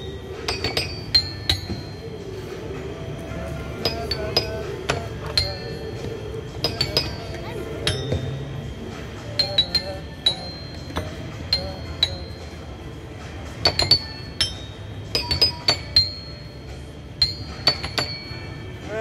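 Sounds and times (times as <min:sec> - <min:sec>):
metallophone melody: 0:00.0 - 0:18.7.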